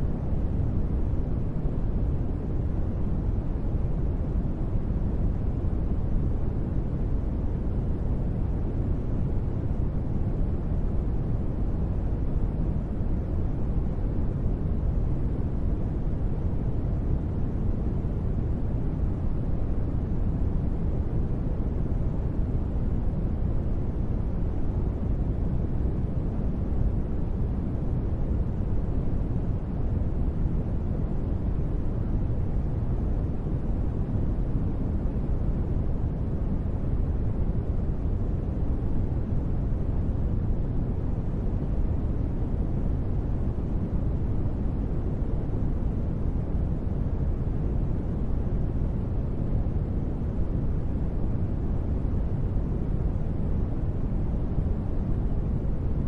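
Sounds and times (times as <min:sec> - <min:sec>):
deep rumbling ambient noise: 0:00.0 - 0:56.0.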